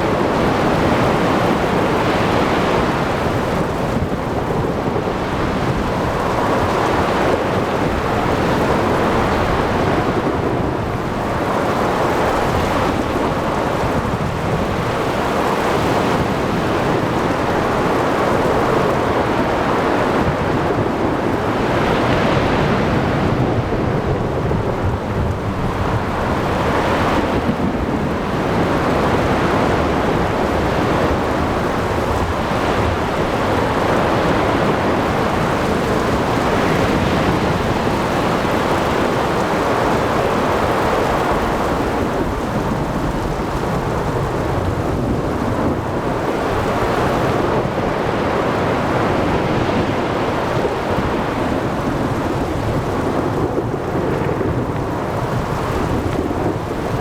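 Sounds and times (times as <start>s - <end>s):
heavy rain: 0.0s - 57.0s
surf: 0.0s - 57.0s
wind: 0.0s - 57.0s.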